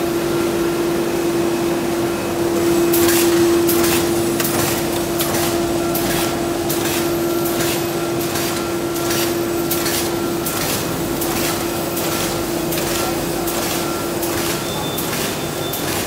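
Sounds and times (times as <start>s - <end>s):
machine hum: 0.0s - 16.0s
machine clacking: 2.9s - 16.0s.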